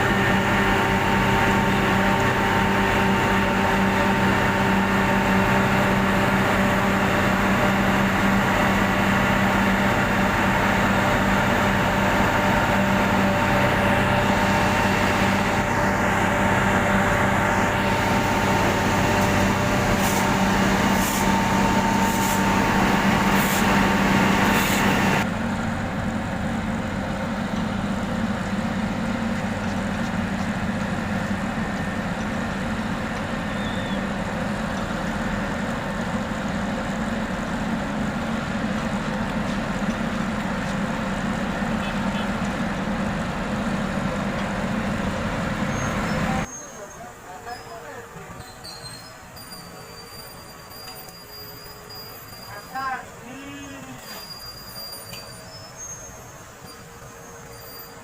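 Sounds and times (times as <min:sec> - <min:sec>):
dull engine rumble: 0:00.0 - 0:58.0
heavy machinery engine drone: 0:00.0 - 0:58.0.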